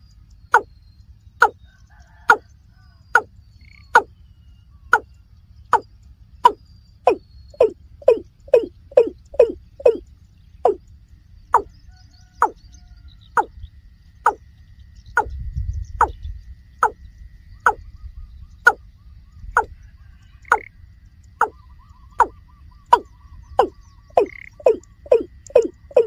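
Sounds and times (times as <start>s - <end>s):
bird calling hollow notes: 0.4s - 0.8s, 1.4s - 1.6s, 3.1s - 13.6s, 14.2s - 19.8s, 20.4s - 20.7s, 21.3s - 26.0s
low rumble: 3.0s - 26.0s.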